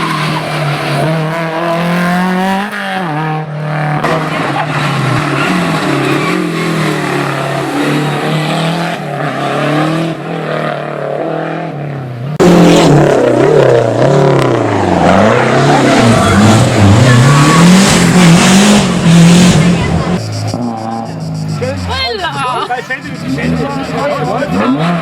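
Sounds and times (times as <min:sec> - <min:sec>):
rally car engines revving: 0:00.0 - 0:25.0
close car engine revving: 0:01.0 - 0:25.0.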